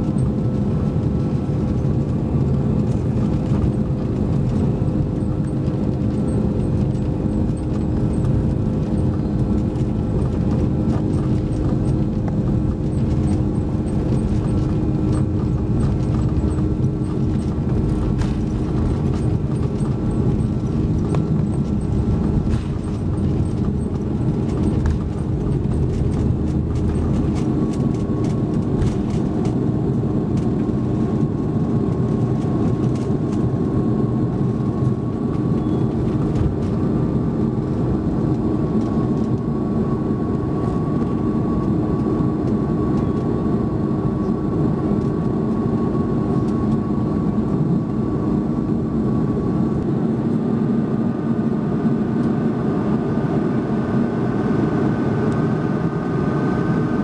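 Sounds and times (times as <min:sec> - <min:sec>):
jet engines with fan whine: 0:00.0 - 0:57.0
wheels rumbling on runway: 0:00.0 - 0:57.0.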